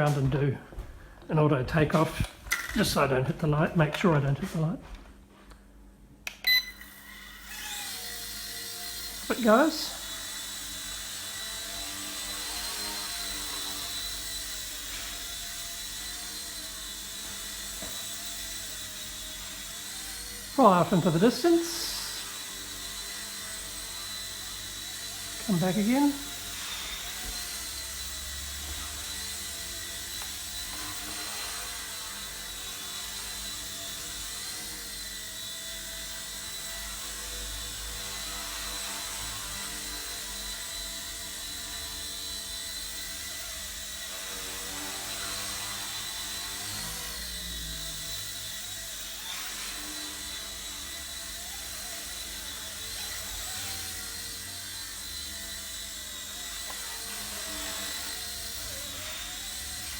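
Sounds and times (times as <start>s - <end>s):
toy helicopter motor whine: 6.4s - 59.9s.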